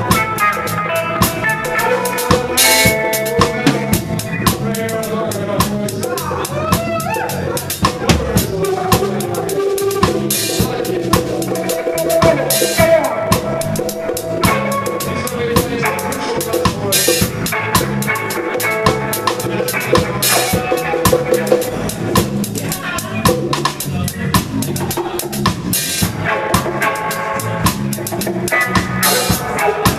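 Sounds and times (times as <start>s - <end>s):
reggae band playing live: 0.0s - 29.9s
sustained bass: 0.0s - 29.9s.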